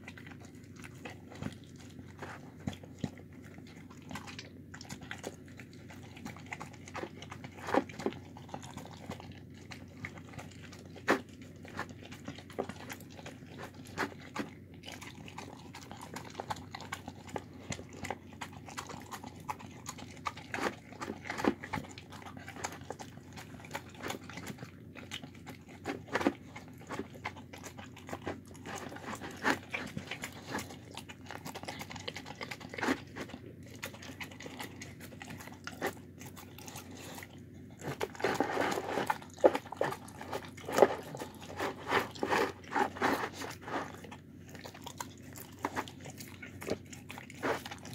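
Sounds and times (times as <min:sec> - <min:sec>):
dog chewing and licking: 0:00.0 - 0:47.9.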